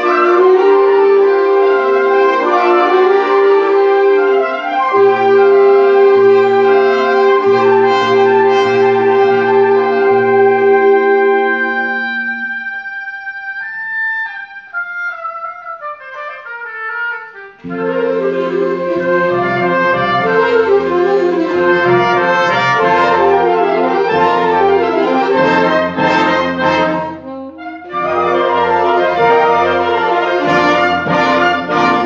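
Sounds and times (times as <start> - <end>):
brass ensemble music: 0.0 - 32.0.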